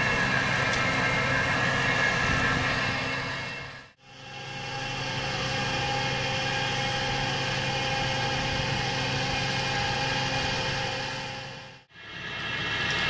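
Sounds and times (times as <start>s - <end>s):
flail mulcher cutting grass: 0.0s - 3.4s, 4.0s - 13.0s
tractor engine running: 0.0s - 13.0s.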